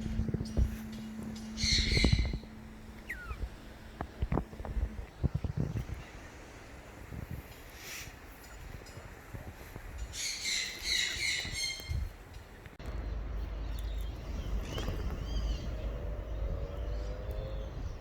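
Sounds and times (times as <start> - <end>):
bird calls: 0.0 - 9.0, 10.0 - 18.0
wind rumble on microphone: 0.0 - 18.0.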